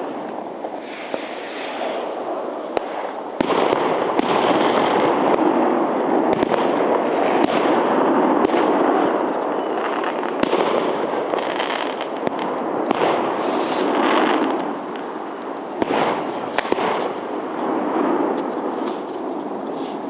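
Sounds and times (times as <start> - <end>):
firework bangs: 0.0 - 20.0
fireworks crackling and hissing: 0.0 - 20.0.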